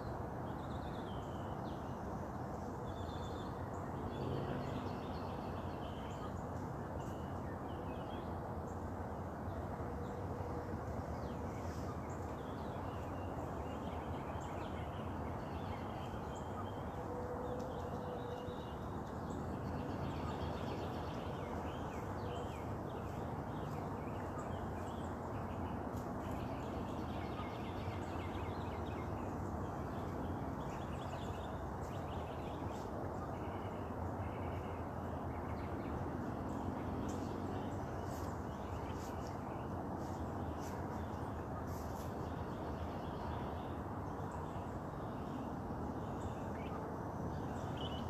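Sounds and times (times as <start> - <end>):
low background noise: 0.0 - 48.0.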